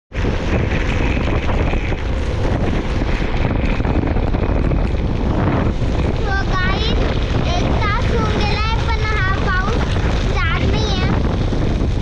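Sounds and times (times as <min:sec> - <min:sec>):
wind buffeting the microphone: 0:00.1 - 0:12.0.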